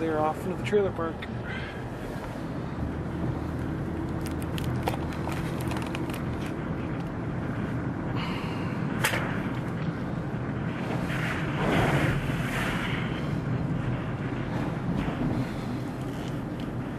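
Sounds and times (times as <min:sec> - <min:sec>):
car cabin road and engine hum: 0:00.0 - 0:16.9.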